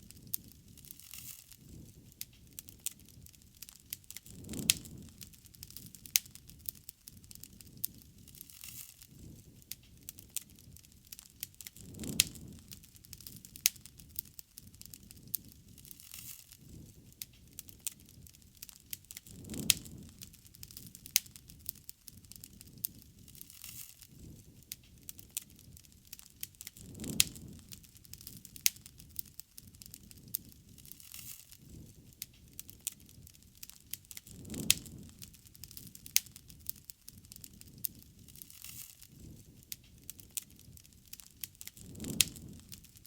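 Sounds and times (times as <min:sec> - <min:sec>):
fire crackling and popping: 0:00.0 - 0:43.0
low rumble of flame: 0:00.0 - 0:43.0.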